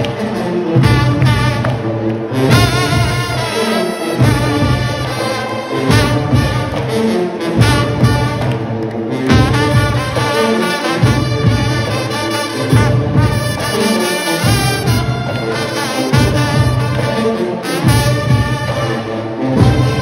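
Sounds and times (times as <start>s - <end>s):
brass horns holding notes: 0.0s - 20.0s
heavy drum beats: 0.7s - 1.8s, 2.5s - 8.6s, 9.2s - 20.0s.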